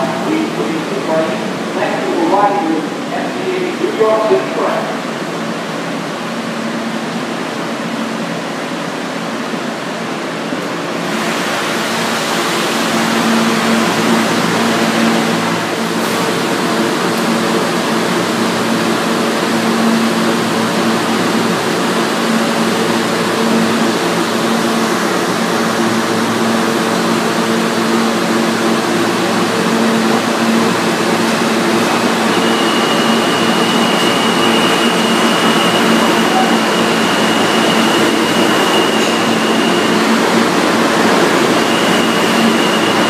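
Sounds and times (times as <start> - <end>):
high-pitched train whine: 0.0 - 43.0
subway train rumble: 0.0 - 43.0.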